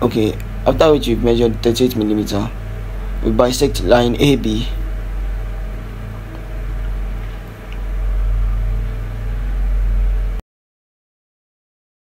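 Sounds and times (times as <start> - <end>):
low machine hum: 0.0 - 10.4.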